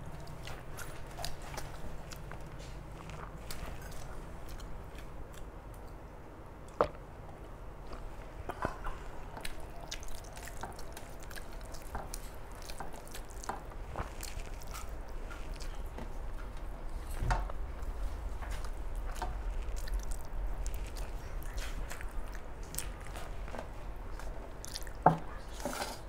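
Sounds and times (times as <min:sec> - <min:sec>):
wet chewing and mouth sounds: 0:00.0 - 0:06.0, 0:06.6 - 0:26.0.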